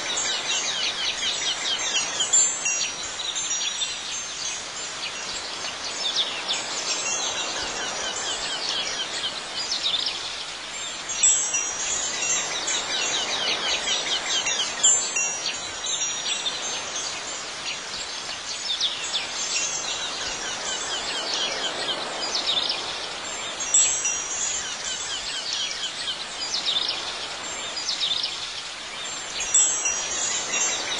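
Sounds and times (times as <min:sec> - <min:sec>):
wind chimes tinkling: 0:00.0 - 0:28.2, 0:29.0 - 0:30.9.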